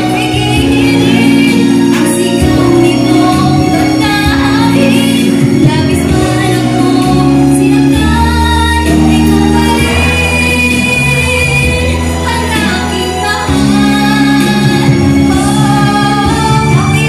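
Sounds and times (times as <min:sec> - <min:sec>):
instrumental accompaniment: 0:00.0 - 0:17.0
woman singing into a microphone: 0:00.0 - 0:17.0.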